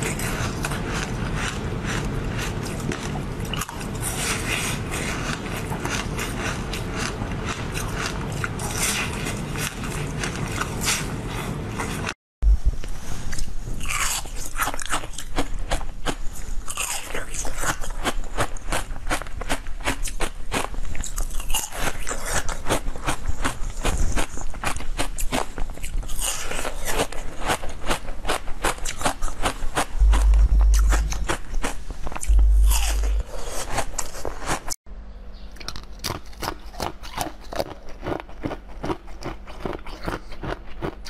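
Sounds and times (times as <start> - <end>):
wet chewing of jelly: 0.0 - 12.2, 13.3 - 34.6, 35.6 - 41.0.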